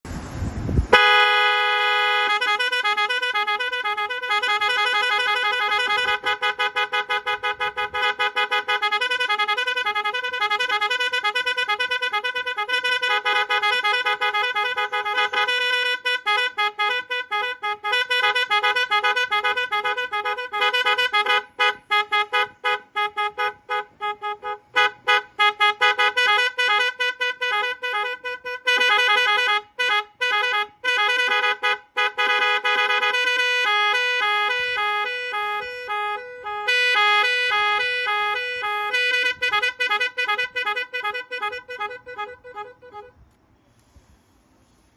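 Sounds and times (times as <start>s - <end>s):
multi-tone bike horn: 0.9s - 43.2s.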